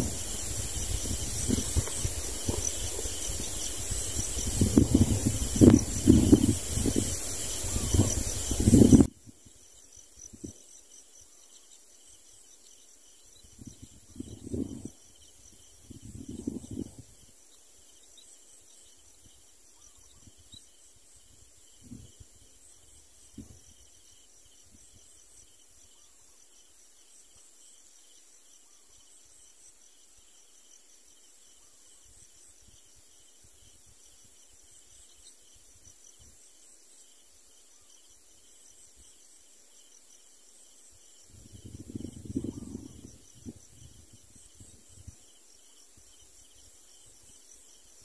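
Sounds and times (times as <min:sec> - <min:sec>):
insect chorus trilling: 0:00.0 - 0:48.0.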